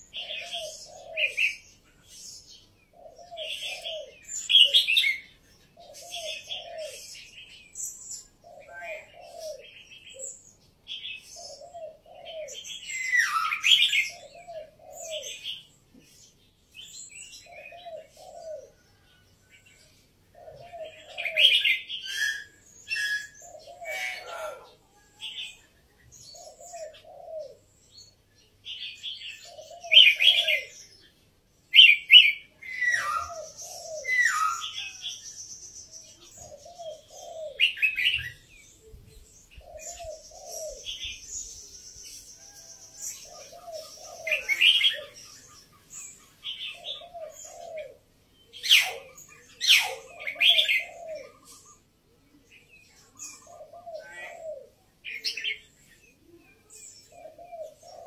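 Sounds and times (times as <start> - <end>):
dove cooing: 0.0 - 2.3, 2.9 - 7.5, 8.1 - 10.4, 11.0 - 16.2, 17.3 - 31.0, 31.7 - 35.2, 36.0 - 58.0
bird chirping song: 0.0 - 58.0.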